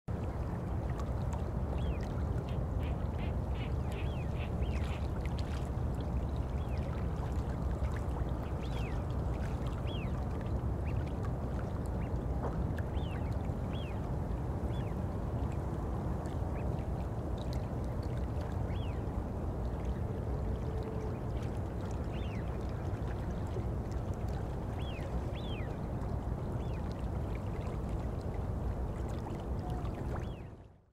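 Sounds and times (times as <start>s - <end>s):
low rush of moving water: 0.1s - 30.9s.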